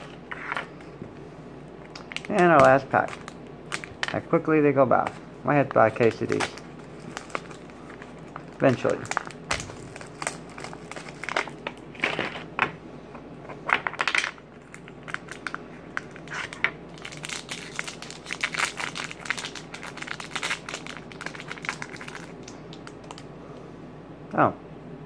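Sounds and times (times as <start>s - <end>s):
plastic packaging crinkling: 1.8s - 12.5s, 13.8s - 23.3s.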